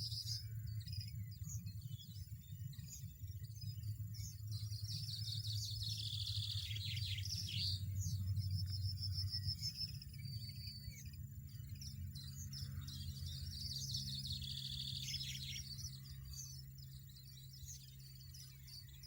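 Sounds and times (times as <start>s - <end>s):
finches twittering and chirping: 0.0s - 19.0s.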